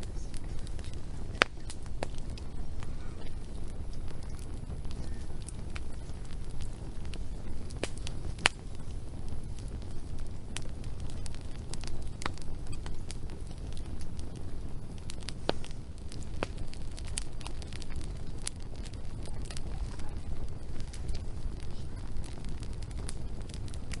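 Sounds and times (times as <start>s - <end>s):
low rumble of fire: 0.0s - 24.0s
wood fire crackling and popping: 0.0s - 24.0s.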